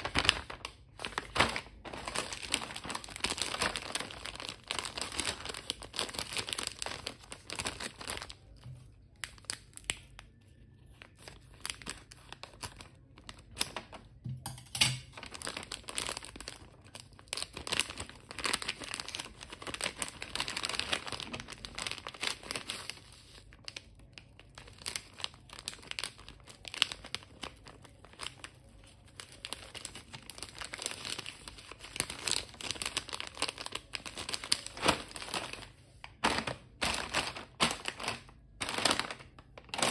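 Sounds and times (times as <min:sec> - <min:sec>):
plastic wrapper crackling: 0:00.0 - 0:14.2, 0:15.0 - 0:39.9.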